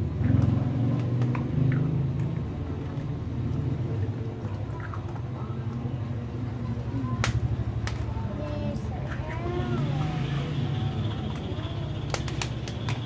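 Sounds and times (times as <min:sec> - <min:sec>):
plastic toys clicking in water: 0:00.1 - 0:09.6, 0:11.0 - 0:13.0.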